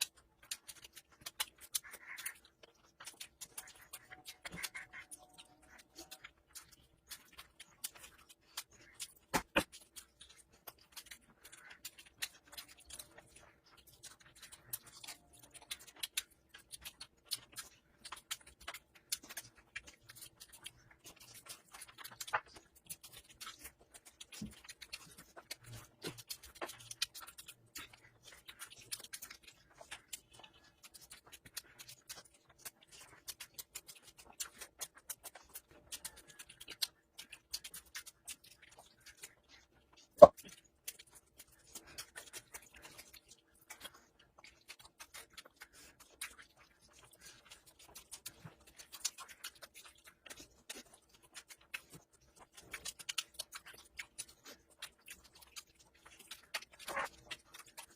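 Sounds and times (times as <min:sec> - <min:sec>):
wet chewing sounds: 0:00.0 - 0:57.9.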